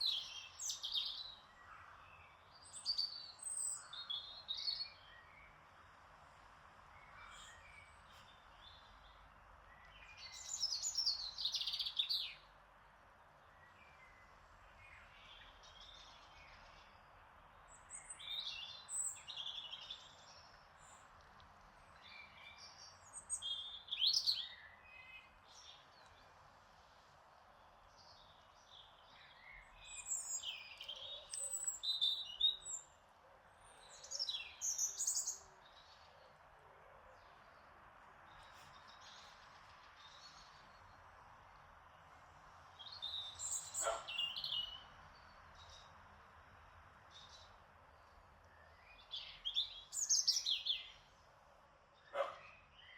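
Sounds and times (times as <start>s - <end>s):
soft breeze: 0.0s - 52.9s
songbirds chirping and warbling: 0.0s - 52.9s.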